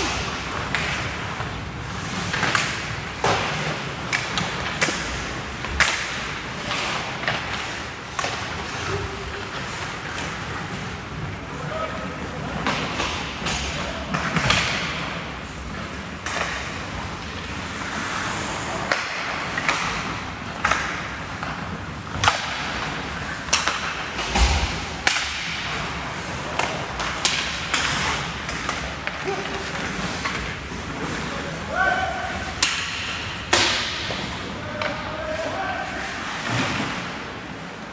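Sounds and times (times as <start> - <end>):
skates scraping ice: 0.0 - 37.9
sticks and puck clacking: 0.0 - 37.9.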